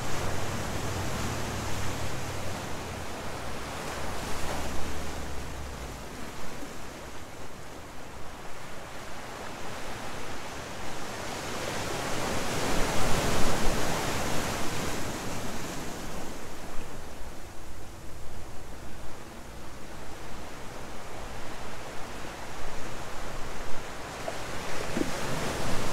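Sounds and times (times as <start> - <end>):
ocean surf on rocks: 0.0 - 25.9.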